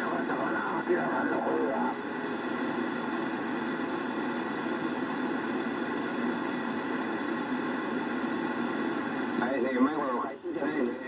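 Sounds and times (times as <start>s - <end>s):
radio static hiss and rumble: 0.0s - 11.0s.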